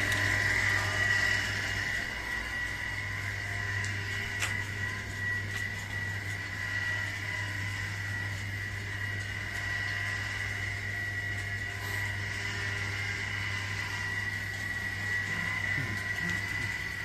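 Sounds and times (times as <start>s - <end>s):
small machine whining: 0.0s - 17.0s.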